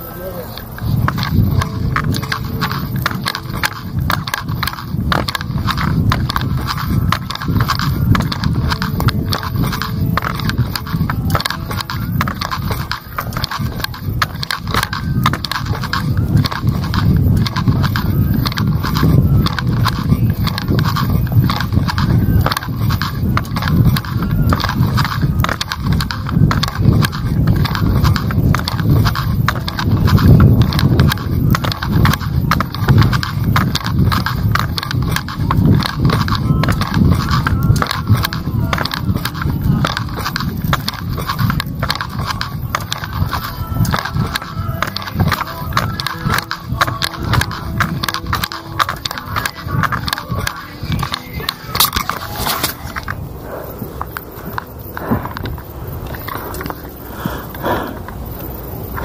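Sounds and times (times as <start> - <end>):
footsteps on paved road: 0.0 - 59.0
wind rumble on microphone: 0.0 - 59.0.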